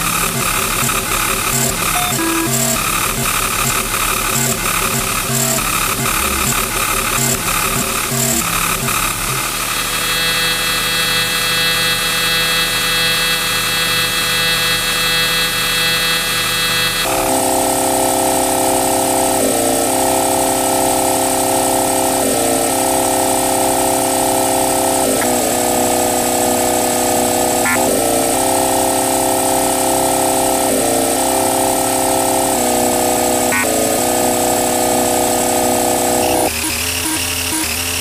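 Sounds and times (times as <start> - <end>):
electronic keyboard drone: 0.0 - 38.0.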